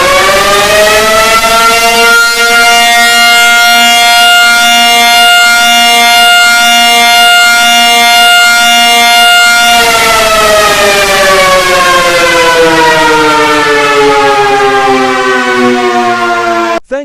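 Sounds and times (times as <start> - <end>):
siren alarm: 0.0 - 16.8.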